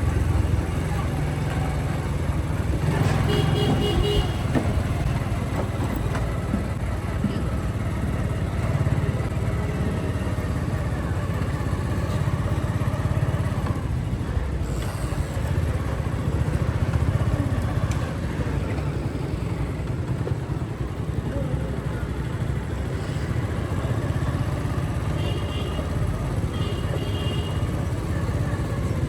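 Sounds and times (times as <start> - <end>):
motorcycle engine running: 0.0 - 29.0
road and traffic noise: 0.0 - 29.0.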